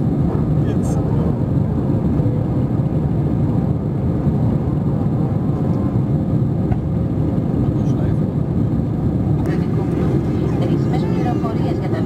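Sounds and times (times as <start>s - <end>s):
jet engines rumbling: 0.0s - 12.0s
rushing air: 0.0s - 12.0s.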